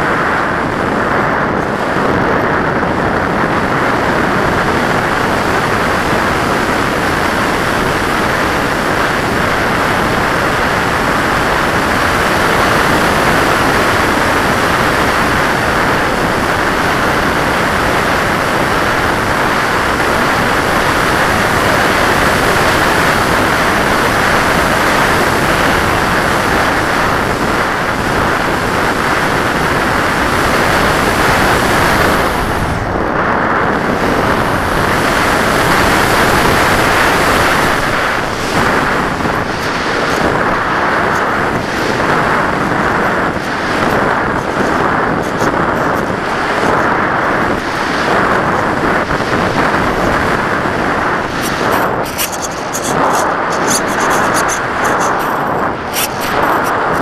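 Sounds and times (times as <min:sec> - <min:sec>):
rushing wind on microphone: 0:00.0 - 0:57.0.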